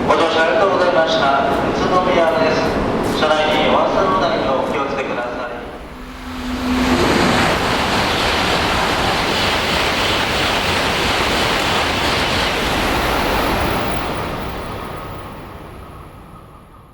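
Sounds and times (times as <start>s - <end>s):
high-speed train rushing past: 0.0s - 16.9s.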